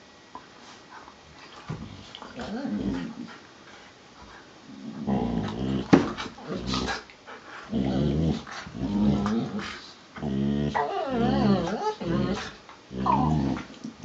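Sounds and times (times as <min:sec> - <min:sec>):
dogs play growling: 0:00.8 - 0:14.0.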